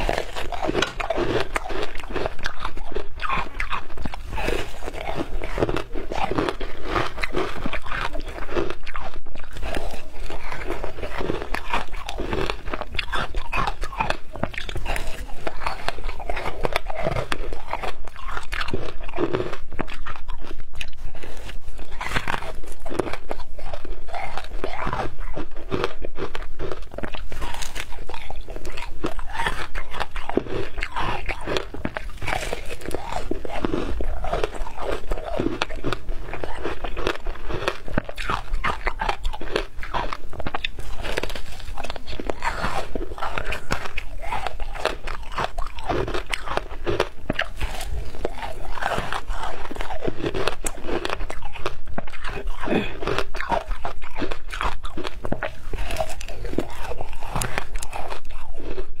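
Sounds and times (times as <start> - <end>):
crunching ice being chewed: 0.0 - 59.0.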